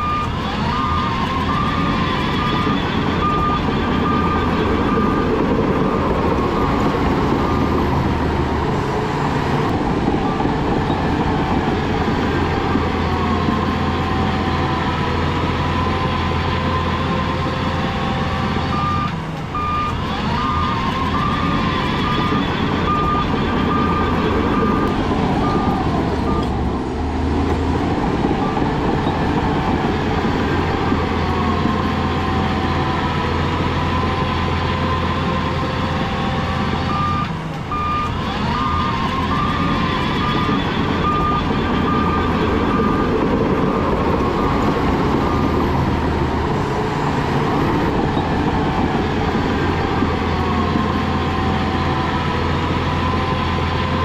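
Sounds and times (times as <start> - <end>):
reversing alarm beeps: 0.0 - 26.6, 28.1 - 46.3
diesel machinery engine drone: 0.0 - 54.0.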